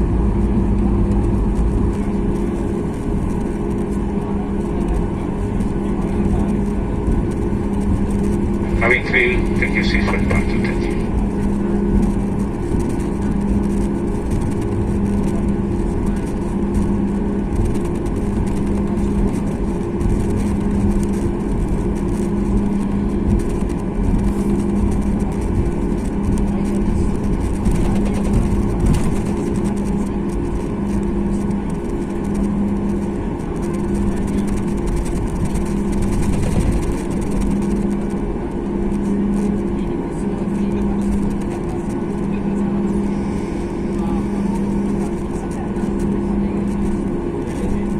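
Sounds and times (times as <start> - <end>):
jet engine rumble in cabin: 0.0 - 47.9
pulsing hum: 0.0 - 47.9.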